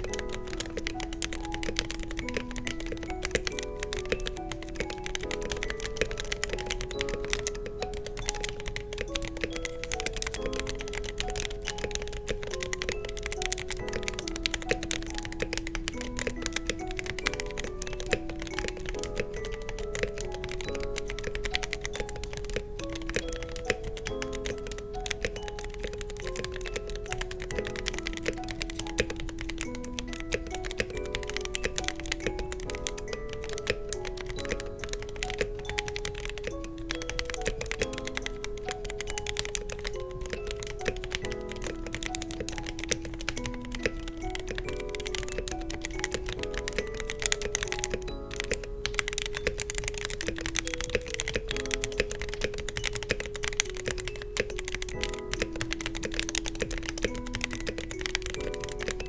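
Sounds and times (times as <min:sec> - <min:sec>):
background music with simple melody: 0:00.0 - 0:59.0
fast mechanical keyboard typing: 0:00.0 - 0:59.0.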